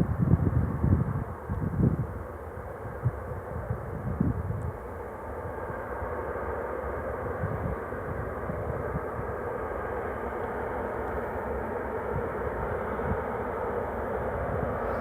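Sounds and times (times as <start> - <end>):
wind buffeting microphone: 0.0 - 5.8, 7.2 - 10.0, 11.5 - 15.0
jet engines rumbling: 2.0 - 15.0.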